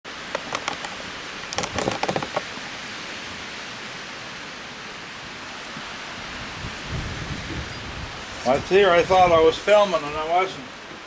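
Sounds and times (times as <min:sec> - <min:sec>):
rain falling: 0:00.1 - 0:11.0.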